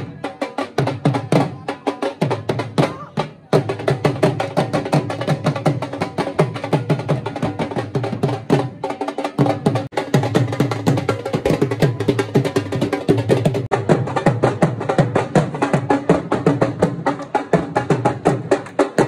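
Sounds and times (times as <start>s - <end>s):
drum beaten fast with sticks: 0.0s - 19.0s.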